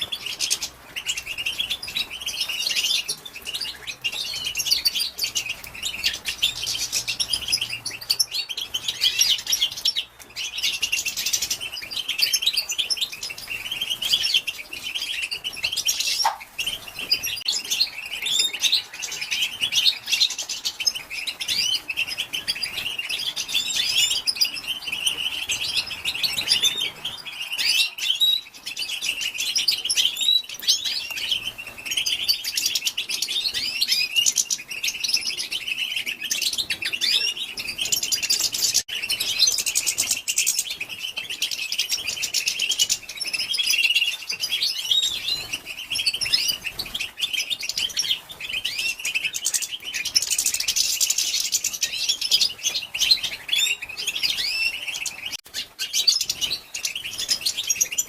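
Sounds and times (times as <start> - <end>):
goldfinch twittering: 0.0 - 58.0.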